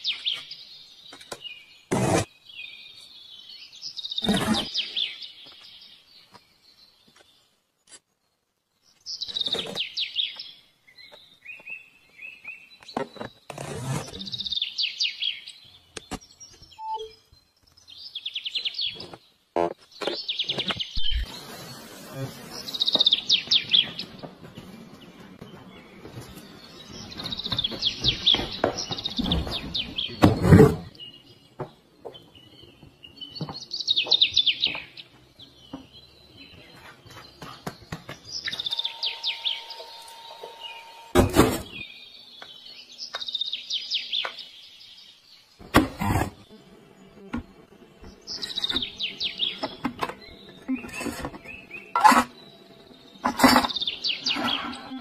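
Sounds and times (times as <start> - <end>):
birds chirping in trilling bursts: 0.0 - 7.5, 8.8 - 55.0.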